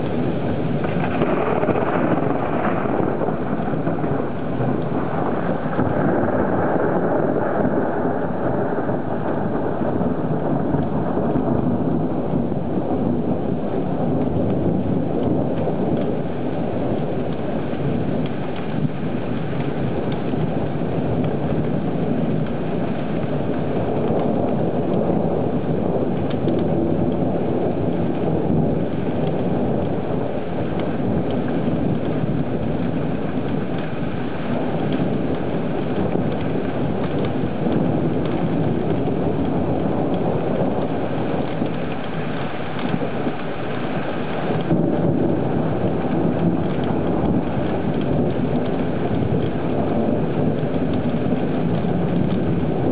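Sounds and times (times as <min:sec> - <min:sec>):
heavy rain rushing: 0:00.0 - 0:52.9
raindrop impacts: 0:00.0 - 0:52.9.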